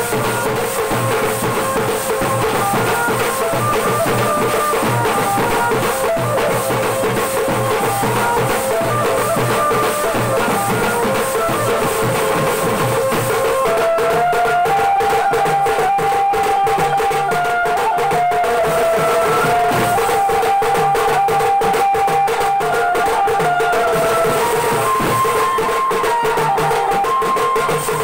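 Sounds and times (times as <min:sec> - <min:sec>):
large drums beaten fast: 0:00.0 - 0:28.0.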